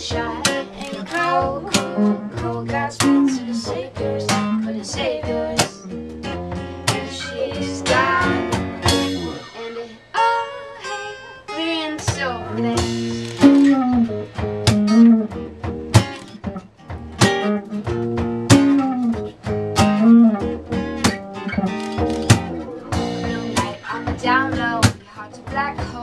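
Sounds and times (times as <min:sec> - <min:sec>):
acoustic guitar strumming: 0:00.0 - 0:26.0
plucked string melody: 0:00.0 - 0:26.0.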